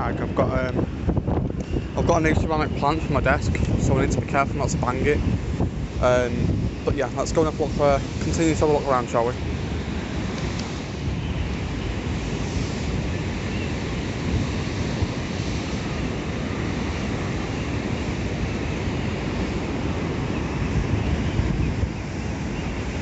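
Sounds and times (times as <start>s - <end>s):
rough sea surf: 0.0s - 23.0s
strong wind buffeting microphone: 0.0s - 23.0s.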